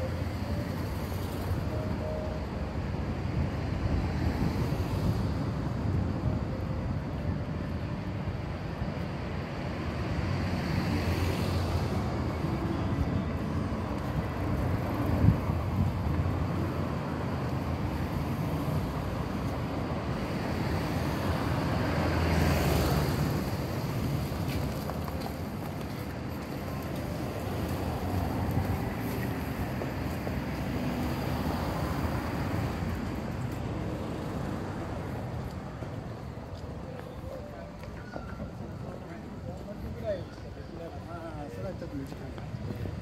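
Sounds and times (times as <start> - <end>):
road traffic hum: 0.0 - 43.0
vehicles passing: 0.0 - 43.0.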